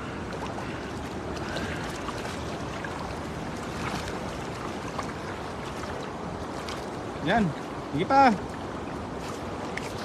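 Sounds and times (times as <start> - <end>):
river water sloshing: 0.0 - 10.0.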